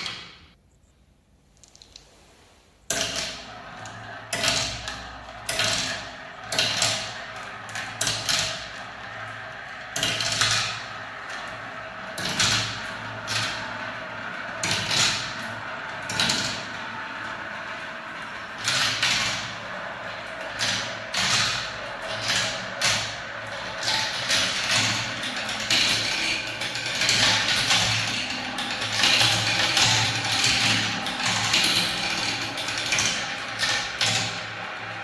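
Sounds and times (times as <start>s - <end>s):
marbles rolling down a ramp: 3.0s - 35.0s.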